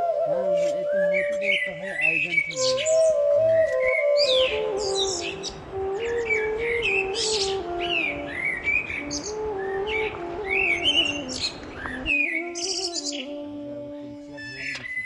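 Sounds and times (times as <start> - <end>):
slow gliding melody: 0.0 - 15.0
steady background hiss: 0.0 - 15.0
small birds chirping: 0.6 - 13.4.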